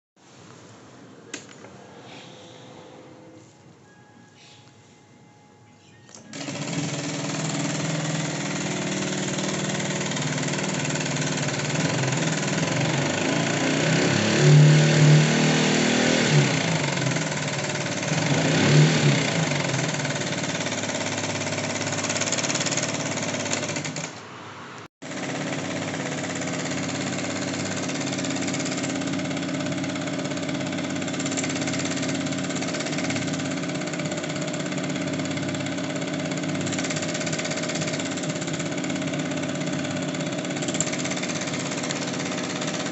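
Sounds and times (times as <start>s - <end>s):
scooter engine with rattle: 6.3s - 24.2s, 25.0s - 42.9s.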